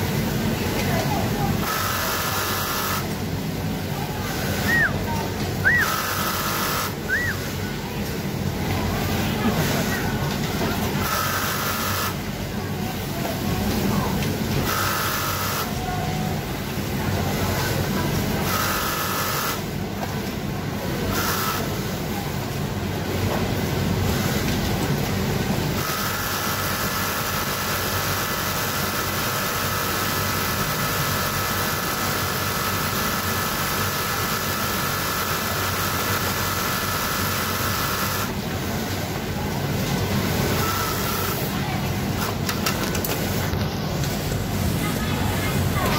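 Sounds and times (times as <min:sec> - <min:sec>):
factory floor din: 0:00.0 - 0:45.9.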